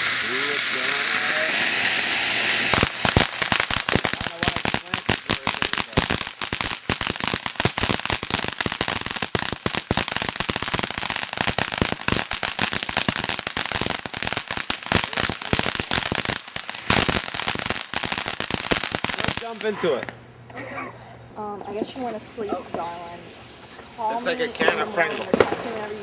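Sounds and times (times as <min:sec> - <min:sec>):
firework hiss: 0:00.0 - 0:20.1, 0:21.8 - 0:26.0
firework crackling pops and bangs: 0:00.0 - 0:20.2, 0:21.8 - 0:26.0.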